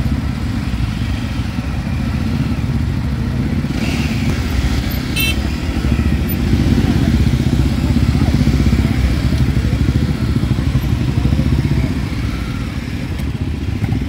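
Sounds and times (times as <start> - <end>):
motorcycle engines rumbling: 0.0 - 14.0.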